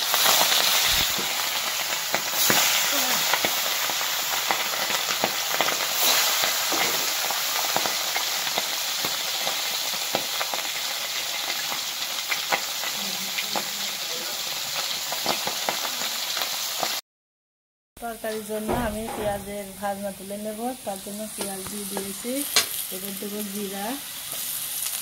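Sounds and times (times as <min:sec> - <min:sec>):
fish frying in hot oil: 0:00.0 - 0:17.0, 0:18.7 - 0:25.0.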